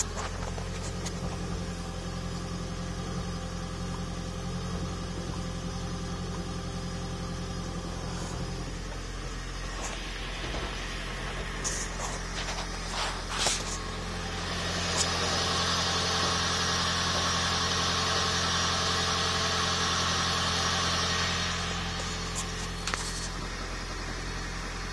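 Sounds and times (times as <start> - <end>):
car engine knocking and rattling: 0.0 - 24.9.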